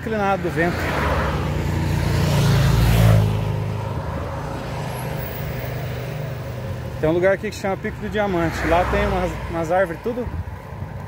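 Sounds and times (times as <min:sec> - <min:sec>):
vehicle passing on road: 0:00.0 - 0:11.0.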